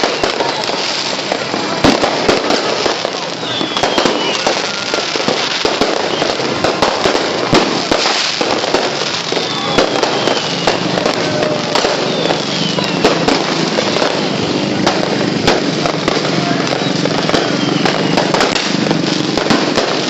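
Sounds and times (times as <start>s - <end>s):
firecrackers crackling: 0.0s - 20.0s
firework whistles: 0.0s - 20.0s.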